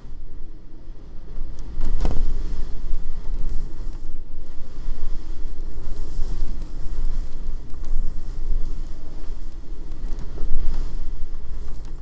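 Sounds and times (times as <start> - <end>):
blizzard wind buffeting microphone: 0.0 - 12.0.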